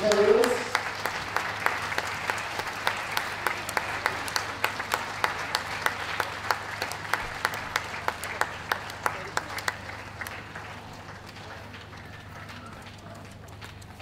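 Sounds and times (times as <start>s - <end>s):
close hands clapping: 0.0s - 14.0s
spectators applauding: 0.0s - 14.0s.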